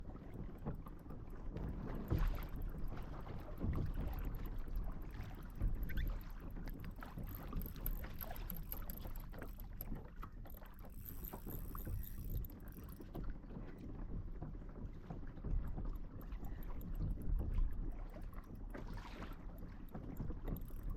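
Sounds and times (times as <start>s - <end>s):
water sloshing against hull: 0.0s - 20.9s.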